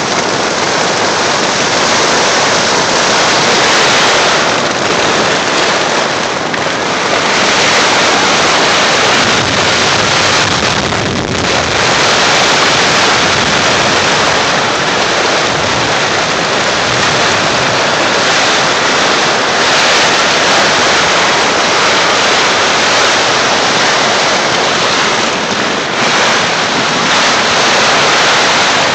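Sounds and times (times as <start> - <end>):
strong wind: 0.0 - 28.9
torrential rain: 0.0 - 28.9
wind buffeting microphone: 0.0 - 28.9.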